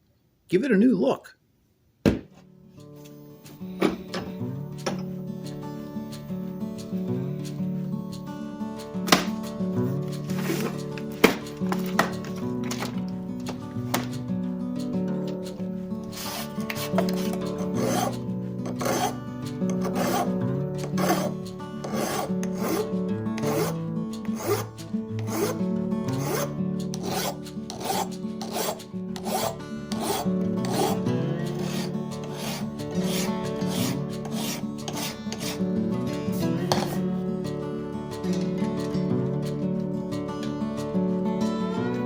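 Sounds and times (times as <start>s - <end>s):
hand scraping metal: 3.0s - 42.0s.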